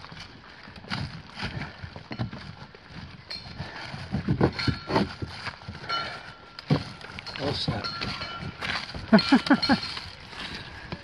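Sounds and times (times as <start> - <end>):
footsteps on rocky dirt trail: 0.0 - 11.0.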